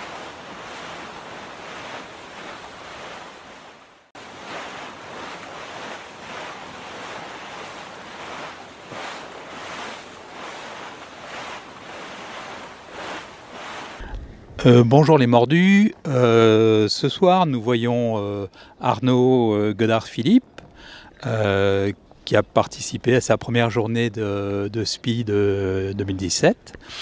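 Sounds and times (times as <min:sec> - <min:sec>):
ocean waves washing: 0:00.0 - 0:27.0.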